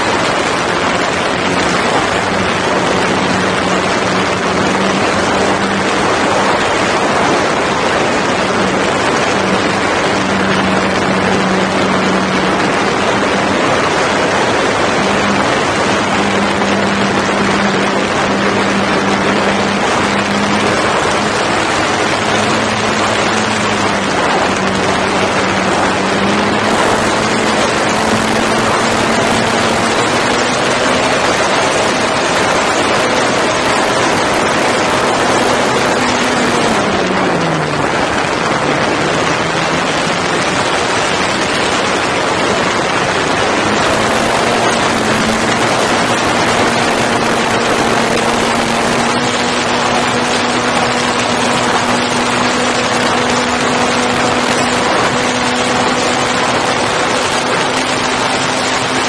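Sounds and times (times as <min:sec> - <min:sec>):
model plane motor droning: 0:00.0 - 0:59.0
wind rush on microphone: 0:00.0 - 0:59.0.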